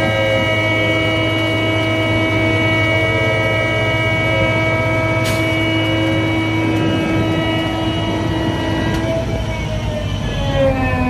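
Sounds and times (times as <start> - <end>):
winch engine running: 0.0 - 11.0.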